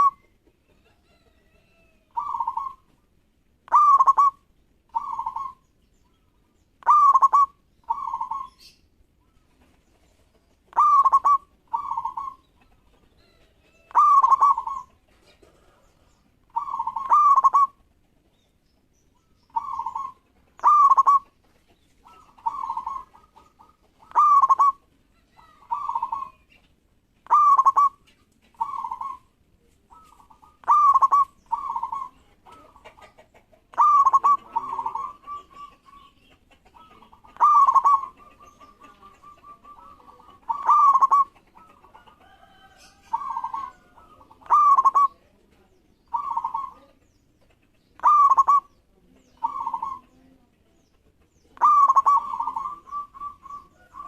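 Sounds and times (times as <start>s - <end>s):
dove cooing: 0.0s - 5.7s, 6.8s - 8.8s, 9.6s - 17.9s, 19.2s - 26.6s, 27.2s - 45.4s, 46.0s - 47.0s, 48.0s - 50.4s, 51.5s - 54.0s.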